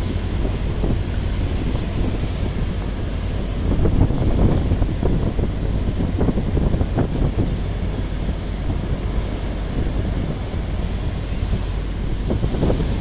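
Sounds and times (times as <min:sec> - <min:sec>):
heavy surf rushing: 0:00.0 - 0:13.0
wind buffeting microphone: 0:00.0 - 0:13.0.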